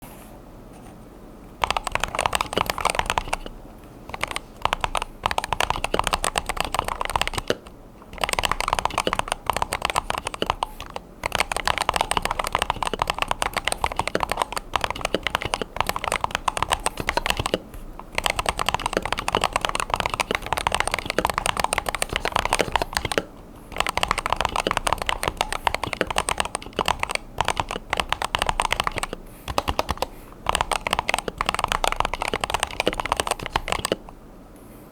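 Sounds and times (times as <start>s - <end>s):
fast keyboard typing: 1.6s - 34.2s.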